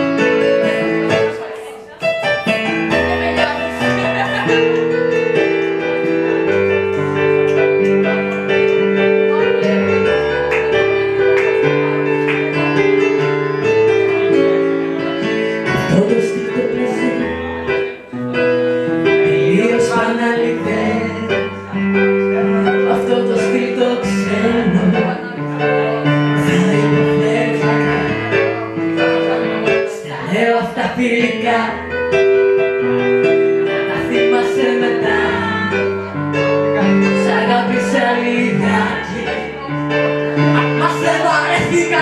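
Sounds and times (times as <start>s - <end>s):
keyboard piano chords: 0.0s - 42.0s
person singing: 0.0s - 42.0s.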